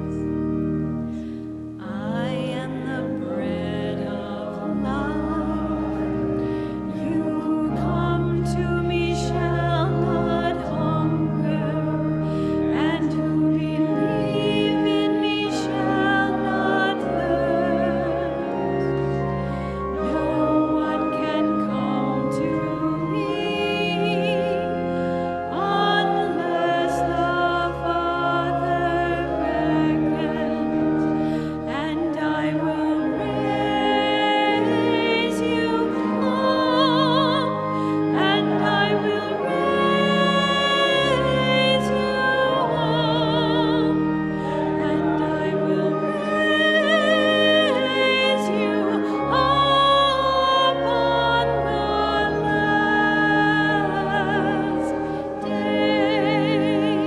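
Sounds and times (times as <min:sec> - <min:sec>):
person singing hymn with vibrato: 0:00.0 - 0:57.0
sustained low accompaniment: 0:00.0 - 0:57.0.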